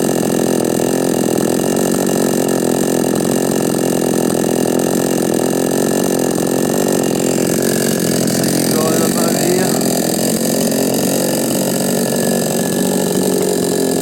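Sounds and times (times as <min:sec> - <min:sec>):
chainsaw engine running steadily: 0:00.0 - 0:14.0.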